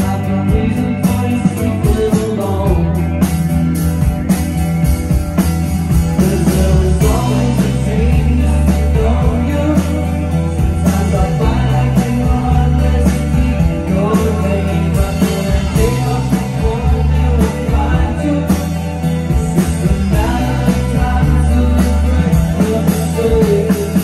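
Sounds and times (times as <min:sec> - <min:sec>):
bass guitar: 0:00.0 - 0:24.0
drums: 0:00.0 - 0:24.0
electric guitar: 0:00.0 - 0:24.0.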